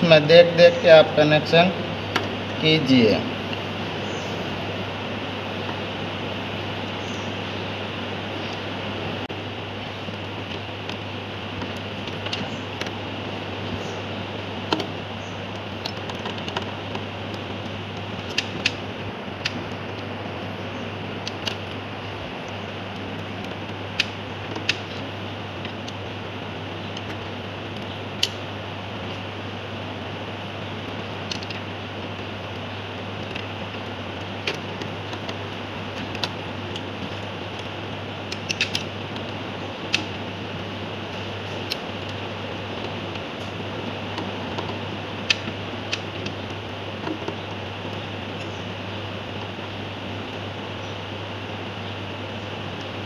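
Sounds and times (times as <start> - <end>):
background hum and hiss: 0.0 - 53.0.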